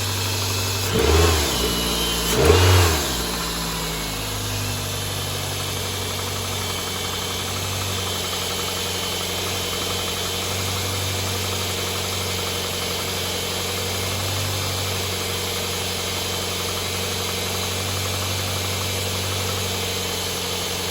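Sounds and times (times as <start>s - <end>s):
car engine idling with clatter: 0.0s - 20.9s.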